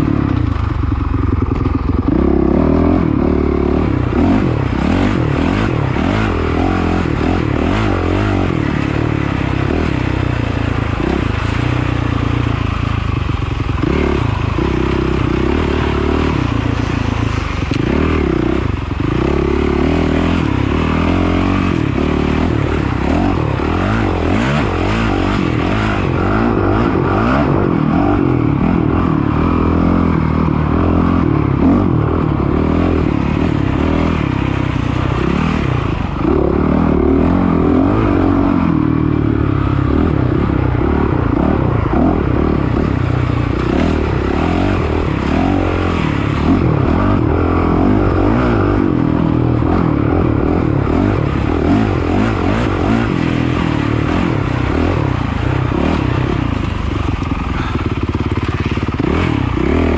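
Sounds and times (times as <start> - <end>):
dirt bike engine revving: 1.0 - 59.9.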